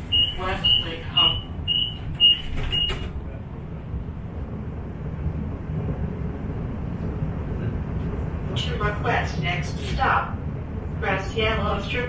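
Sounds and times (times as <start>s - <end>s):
streetcar interior rumble: 0.0s - 12.0s.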